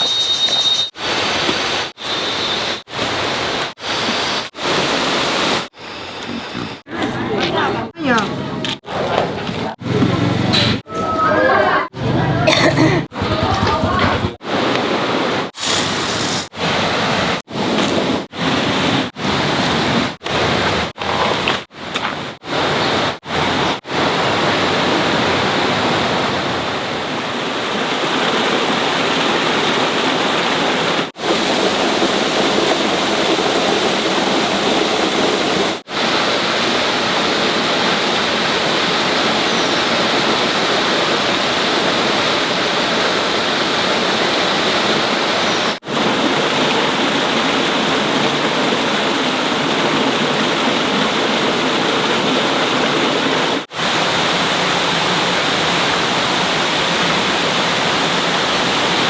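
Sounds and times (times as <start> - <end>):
rushing water: 0.9 - 10.3, 12.5 - 59.0.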